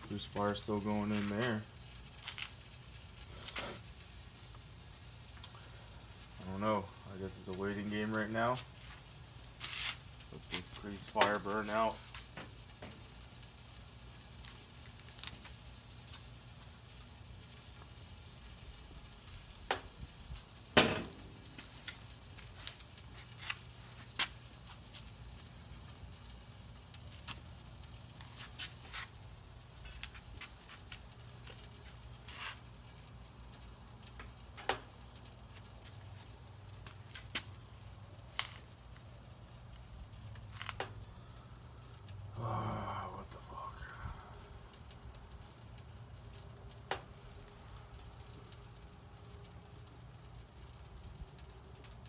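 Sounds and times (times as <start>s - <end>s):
fire crackling and popping: 0.0s - 52.0s
grease fire sizzling: 0.0s - 52.0s.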